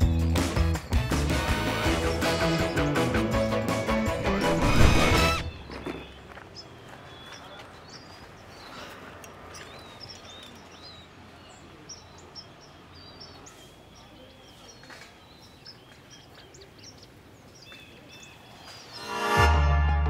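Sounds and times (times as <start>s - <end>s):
small birds chirping: 0.0s - 4.5s, 5.2s - 19.1s.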